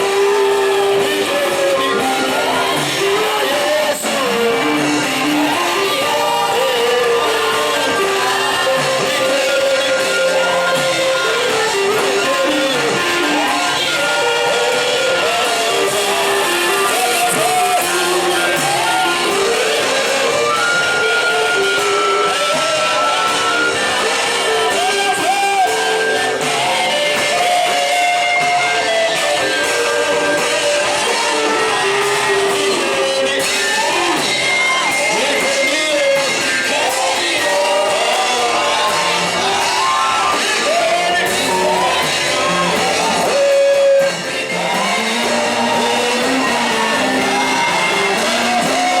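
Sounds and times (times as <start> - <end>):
people shouting: 0.0 - 49.0
worship music with singing: 0.0 - 49.0.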